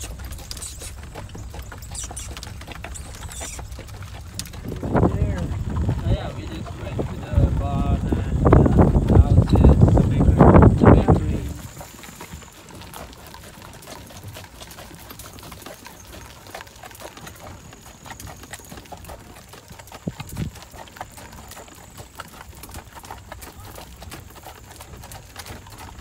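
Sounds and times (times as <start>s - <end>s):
horse hooves on gravel: 0.0s - 26.0s
wheels crunching over gravel: 0.0s - 26.0s.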